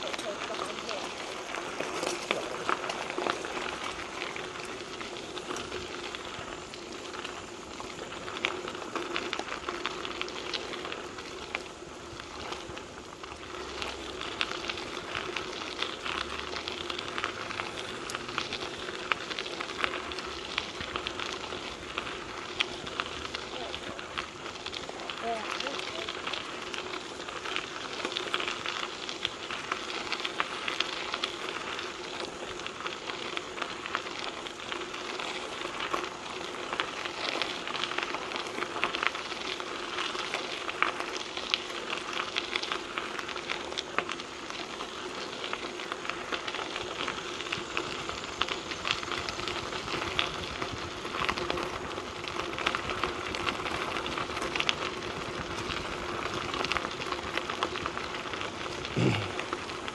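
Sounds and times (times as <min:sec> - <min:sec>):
bike tyres crunching gravel: 0:00.0 - 0:59.9.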